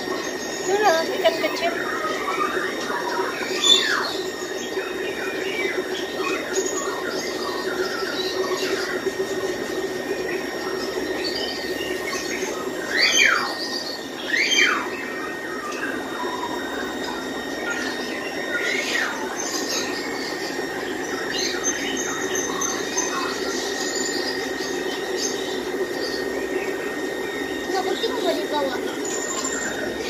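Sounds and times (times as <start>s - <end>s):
caged birds chirping and squawking: 0.0s - 30.0s
steady low hum: 0.0s - 30.0s.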